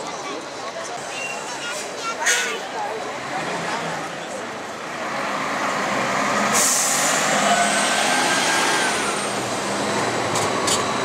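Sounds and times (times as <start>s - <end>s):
bus passing by: 0.4s - 11.0s.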